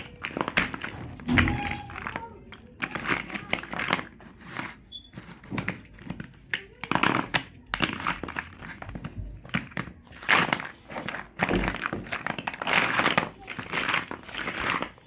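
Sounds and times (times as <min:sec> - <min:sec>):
plastic blocks clattering: 0:00.0 - 0:15.0.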